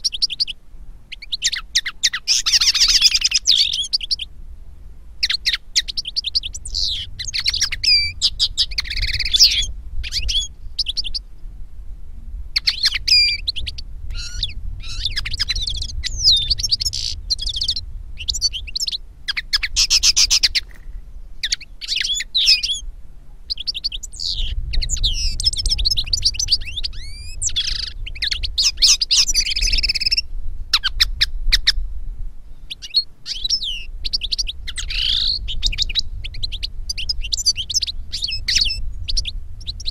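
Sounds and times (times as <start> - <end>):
finch song: 0.0 - 4.3, 5.2 - 11.4, 12.5 - 31.8, 32.5 - 39.9.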